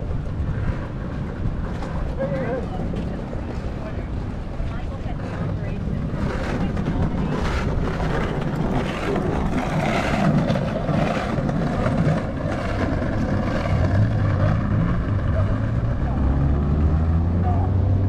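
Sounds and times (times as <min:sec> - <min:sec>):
distant engines rumbling: 0:00.0 - 0:18.0.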